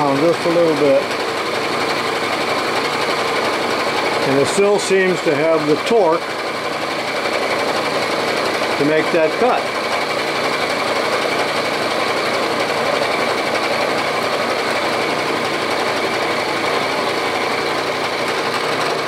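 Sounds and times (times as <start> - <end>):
milling machine cutting steel: 0.0 - 19.0.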